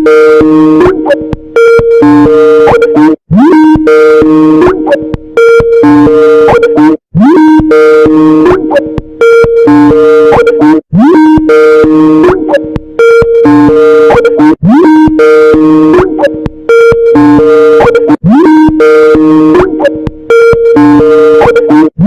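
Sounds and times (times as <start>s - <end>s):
loud bass-boosted ringtone: 0.0s - 22.0s.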